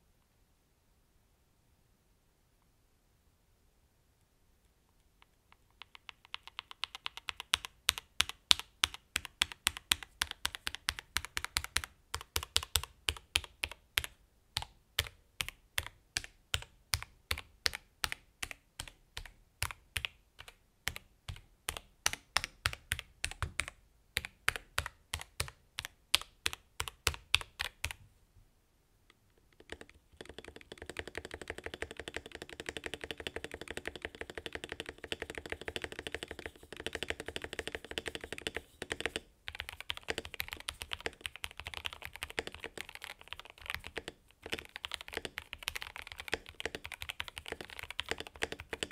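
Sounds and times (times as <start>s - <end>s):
mechanical keyboard typing: 5.8s - 28.0s, 29.5s - 48.9s.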